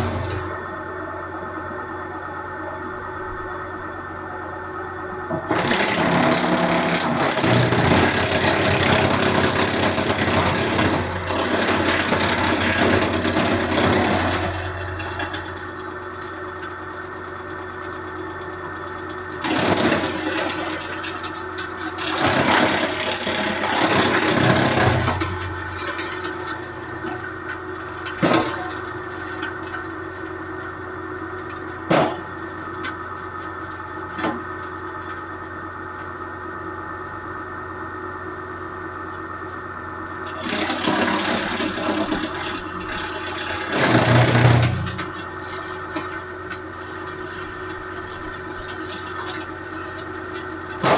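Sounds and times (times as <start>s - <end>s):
wood chipper engine running: 0.0s - 50.9s.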